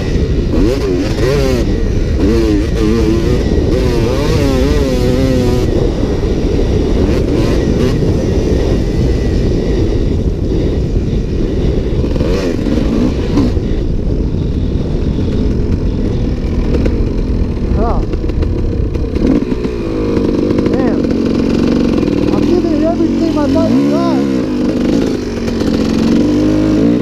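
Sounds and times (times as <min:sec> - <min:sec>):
dirt bike engine revving: 0:00.0 - 0:27.0
low rumble: 0:00.0 - 0:27.0.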